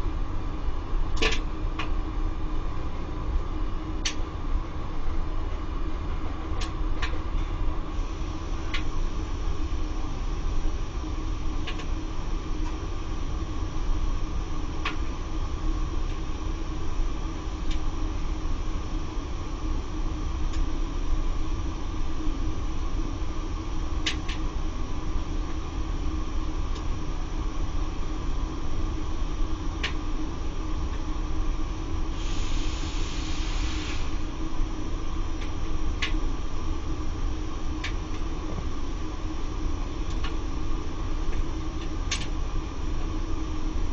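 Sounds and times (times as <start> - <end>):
circulation pump humming: 0.0 - 43.9.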